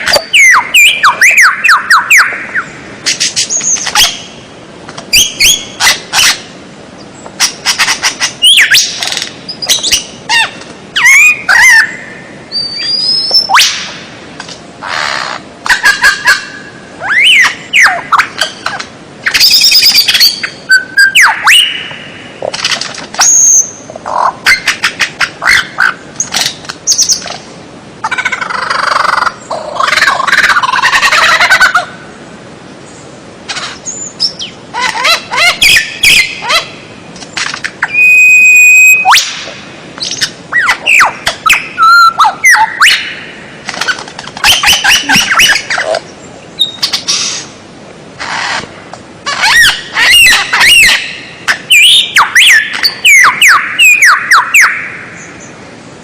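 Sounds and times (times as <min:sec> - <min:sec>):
songbird singing: 0:00.0 - 0:47.6, 0:48.2 - 0:55.7.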